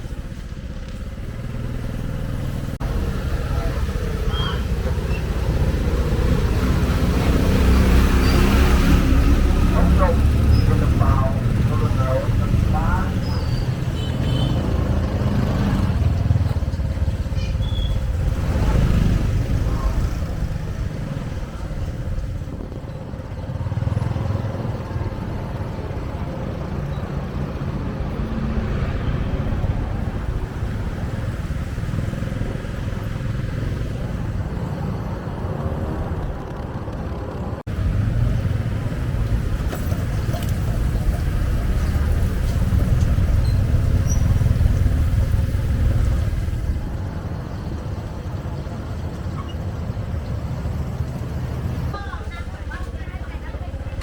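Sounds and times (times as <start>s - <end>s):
motorbike engines running: 0.0s - 54.0s
street traffic: 0.0s - 54.0s.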